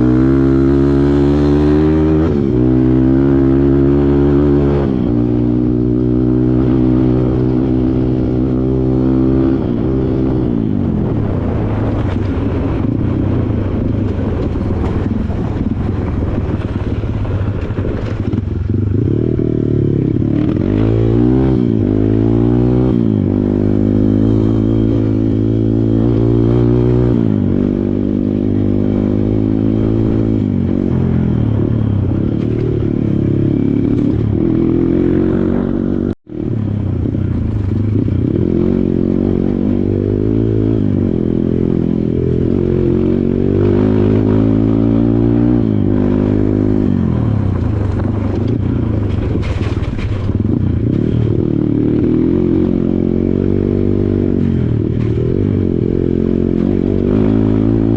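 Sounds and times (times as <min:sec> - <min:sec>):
dirt bike engine running: 0:00.0 - 0:57.9.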